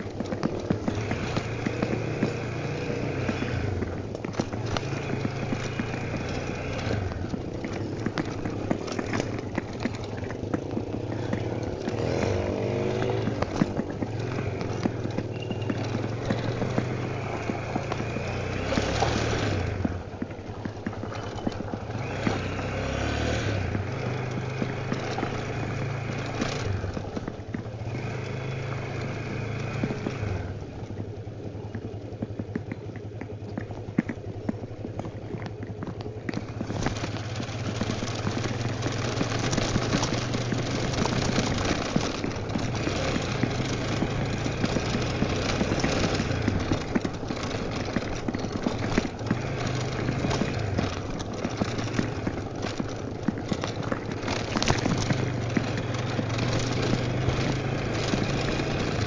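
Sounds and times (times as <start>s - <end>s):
motorcycle engine revving: 0.0s - 34.2s, 34.8s - 59.0s.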